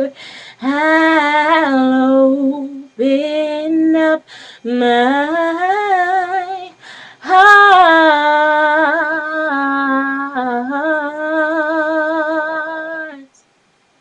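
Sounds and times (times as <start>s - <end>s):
woman singing a cappella: 0.0s - 13.4s.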